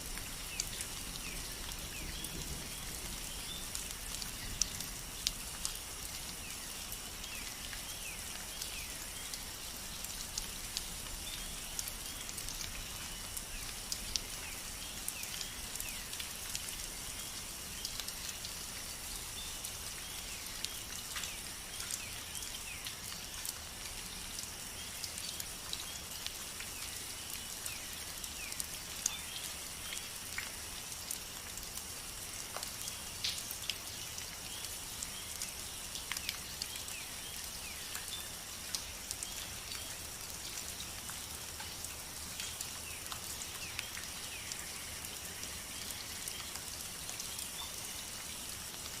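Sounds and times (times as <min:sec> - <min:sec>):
rain hissing and dripping: 0:00.0 - 0:49.0.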